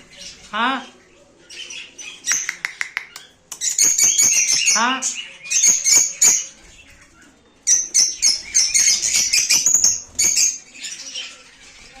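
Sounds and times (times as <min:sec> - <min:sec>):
bird chatter: 0:00.0 - 0:12.0
birds chirping shrilly: 0:01.5 - 0:12.0.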